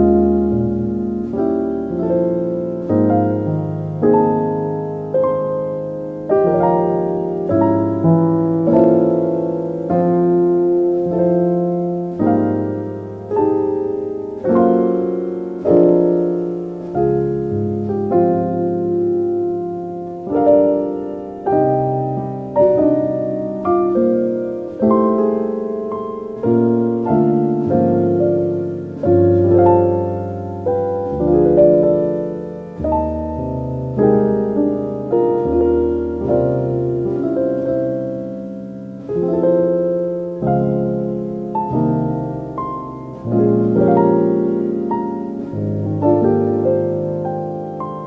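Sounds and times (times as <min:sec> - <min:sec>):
slow soft piano music: 0:00.0 - 0:48.0.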